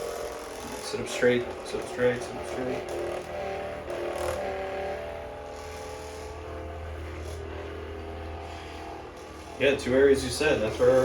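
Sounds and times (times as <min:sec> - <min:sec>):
massage gun motor hum: 0:00.0 - 0:11.0.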